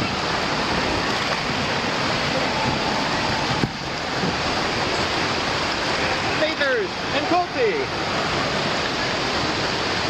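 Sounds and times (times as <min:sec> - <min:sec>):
splashing pool water: 0:00.0 - 0:10.0.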